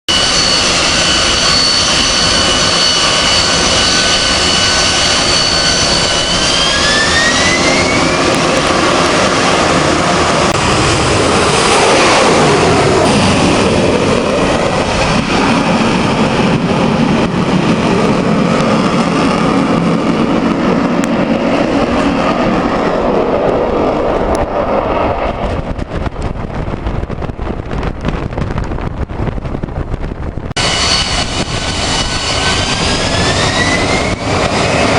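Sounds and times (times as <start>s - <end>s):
jet engine whine: 0.1s - 34.9s
loud jet noise: 0.1s - 34.9s.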